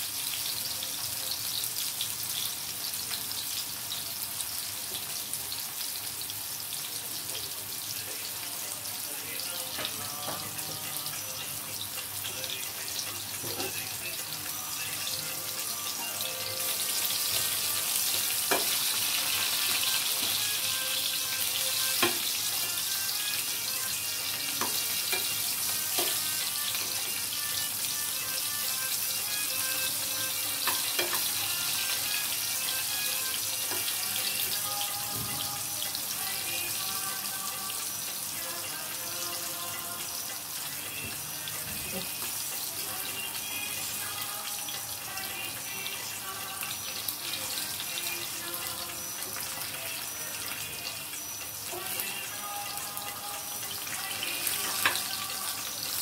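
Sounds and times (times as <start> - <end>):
slices sizzling in hot oil: 0.0 - 56.0.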